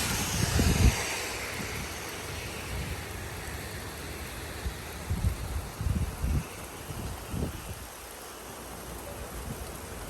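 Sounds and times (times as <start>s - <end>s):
wind buffeting microphone: 0.0s - 8.1s
rain hiss: 0.0s - 10.0s.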